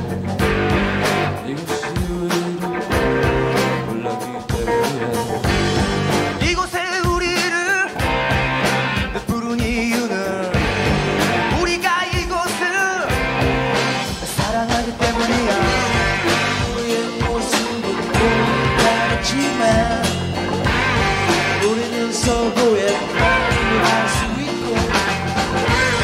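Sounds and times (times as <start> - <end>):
man singing: 0.0 - 8.0, 9.0 - 13.2, 14.0 - 20.5, 21.2 - 26.0
drum beat: 0.0 - 26.0
electric guitar: 0.0 - 26.0.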